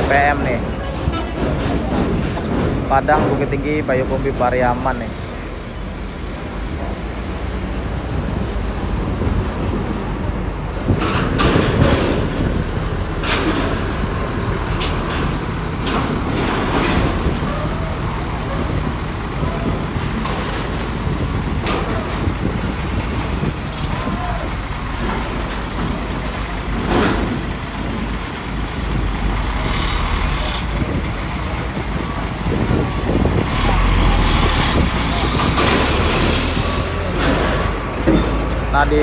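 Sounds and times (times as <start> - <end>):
bus and truck engines rumbling: 0.0 - 39.0.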